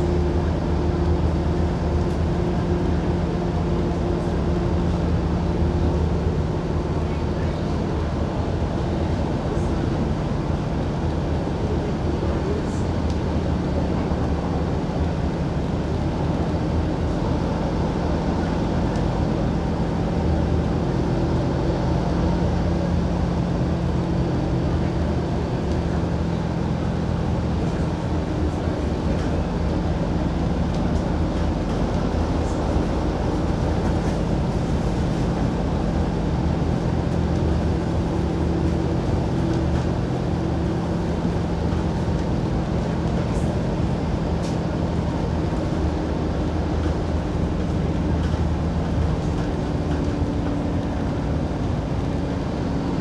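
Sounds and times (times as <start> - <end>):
bus engine and road noise: 0.0 - 53.0.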